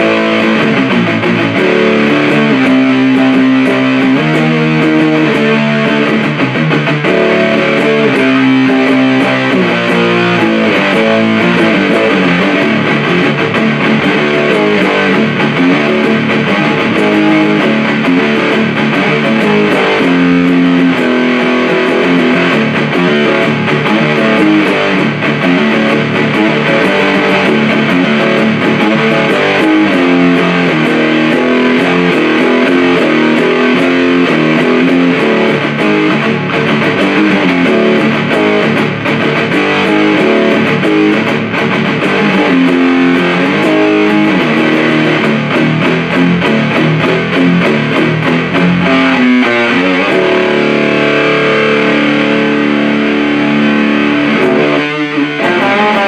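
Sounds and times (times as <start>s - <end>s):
distorted electric guitar riffs: 0.0s - 56.0s.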